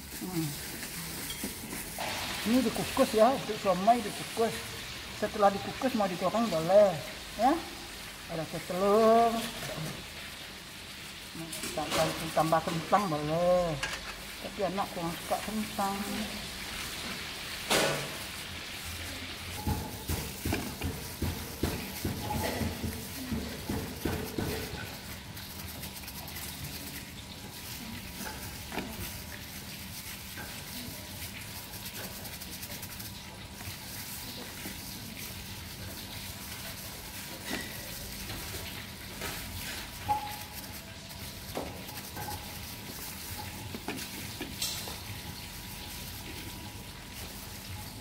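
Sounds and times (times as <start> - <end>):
steady kitchen hiss: 0.0 - 48.0.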